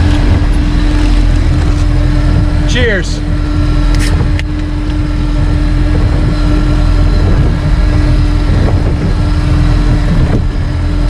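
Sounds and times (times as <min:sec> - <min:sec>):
boat engine droning: 0:00.0 - 0:11.0
wind buffeting microphone: 0:00.0 - 0:11.0.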